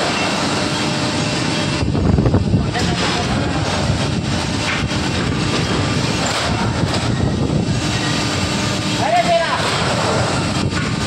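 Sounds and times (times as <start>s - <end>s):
printing machine drone: 0.0s - 11.0s.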